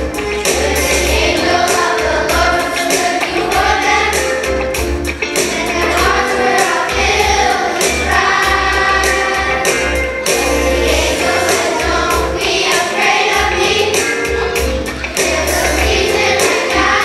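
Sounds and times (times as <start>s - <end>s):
bass line: 0.0s - 2.7s, 3.3s - 12.7s, 13.3s - 17.0s
children's choir singing: 0.0s - 17.0s
percussion beats: 0.0s - 17.0s.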